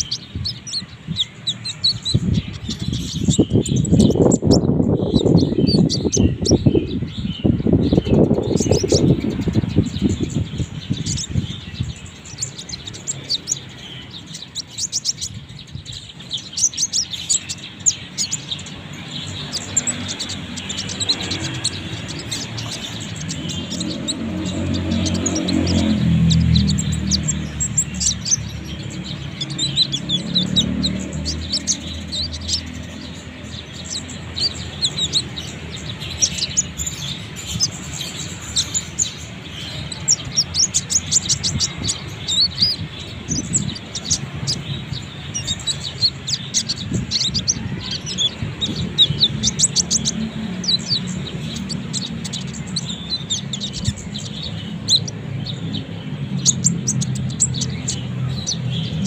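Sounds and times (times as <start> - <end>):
bird chirping and twittering: 0.0 - 59.0.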